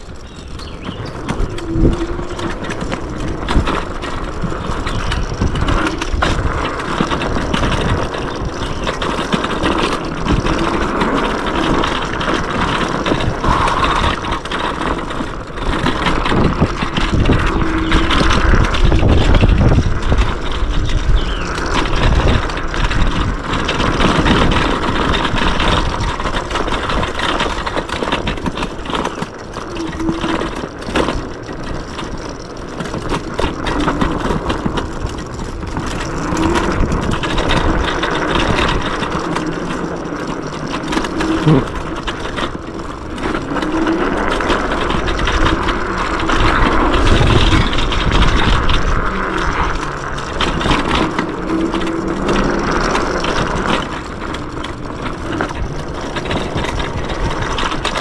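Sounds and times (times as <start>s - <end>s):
knocks and rattles over bumps: 0.0s - 58.0s
wind and tyre noise: 0.0s - 58.0s.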